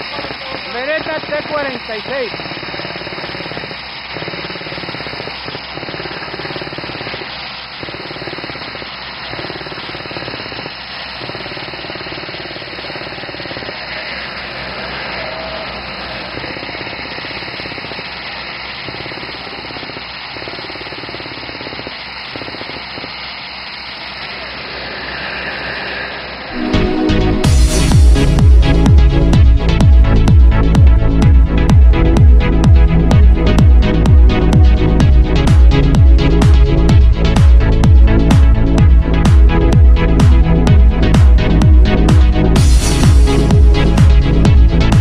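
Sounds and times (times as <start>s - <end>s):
drill rig engine running: 0.0s - 45.0s.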